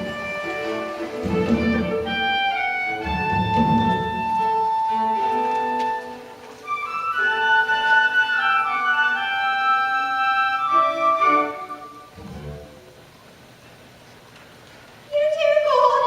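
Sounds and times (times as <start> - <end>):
violin and woodwind music: 0.0 - 12.9.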